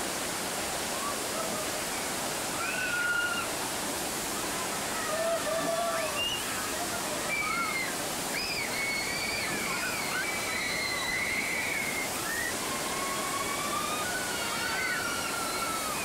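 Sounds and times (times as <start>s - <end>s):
water rushing down flume: 0.0s - 16.0s.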